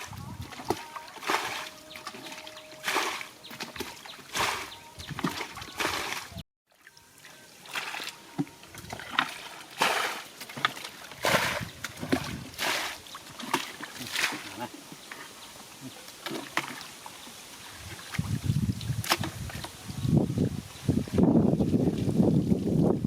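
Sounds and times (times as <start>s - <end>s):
water splashing while wading: 0.0s - 15.3s, 16.0s - 19.8s.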